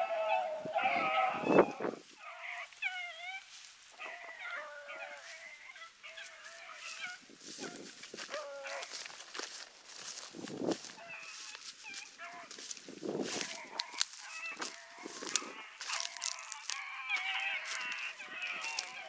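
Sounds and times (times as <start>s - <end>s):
brushy rustling: 0.0s - 19.0s
hounds baying: 0.0s - 19.0s.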